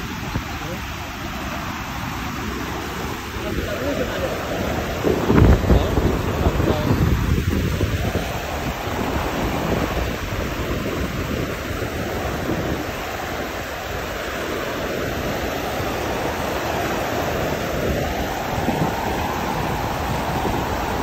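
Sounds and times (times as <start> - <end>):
river water splashing over rocks: 0.0 - 21.0
wind rumbling on microphone: 0.0 - 21.0.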